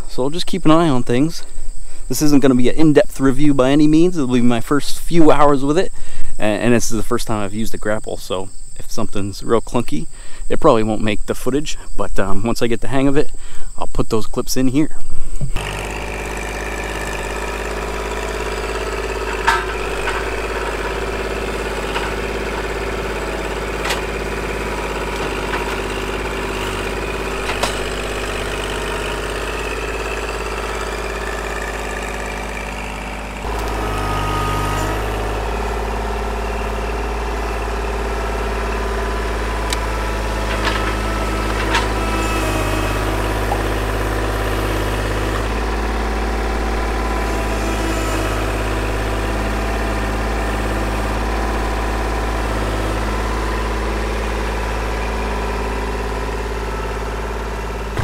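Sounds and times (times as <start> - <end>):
tractor diesel engine running: 0.0 - 13.9, 14.6 - 58.0.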